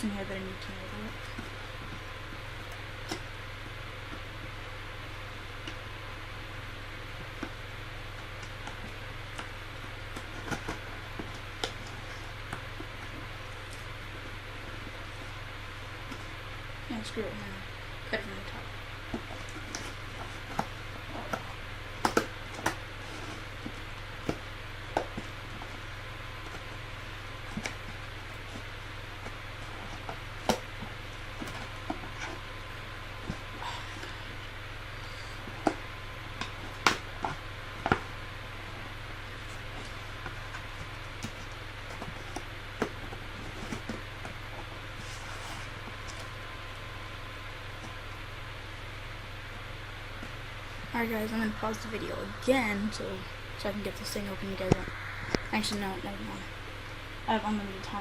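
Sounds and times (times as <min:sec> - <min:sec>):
low hum and hiss: 0:00.0 - 0:58.0.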